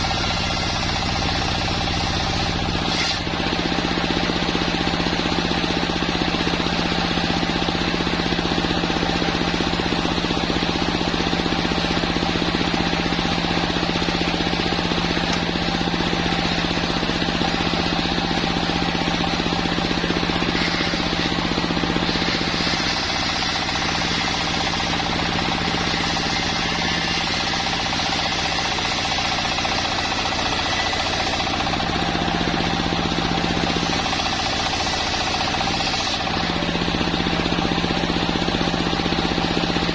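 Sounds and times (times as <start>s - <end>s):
sawmill machine humming: 0.0s - 39.9s.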